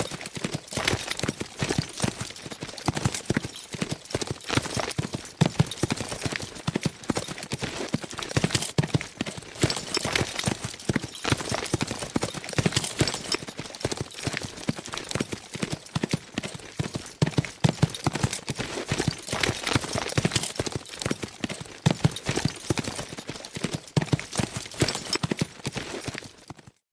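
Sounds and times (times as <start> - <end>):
horses galloping: 0.0 - 26.8.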